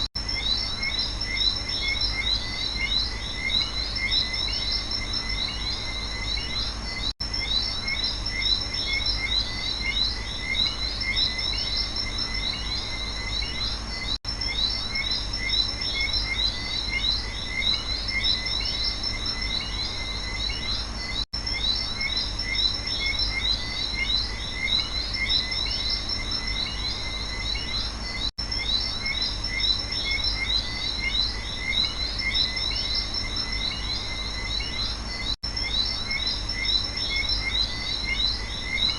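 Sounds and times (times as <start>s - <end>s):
insects and frogs calling: 0.0s - 38.9s.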